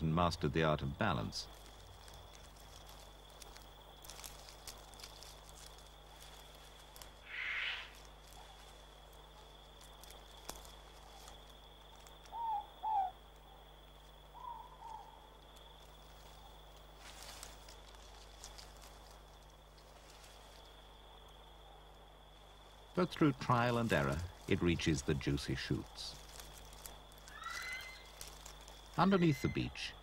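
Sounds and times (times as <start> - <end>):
steady night hiss: 0.0 - 30.0.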